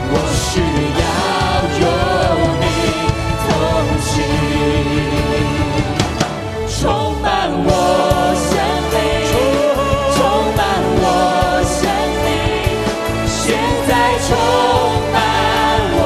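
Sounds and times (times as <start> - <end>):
band with drums: 0.0 - 16.0
voices singing worship song: 0.0 - 16.0.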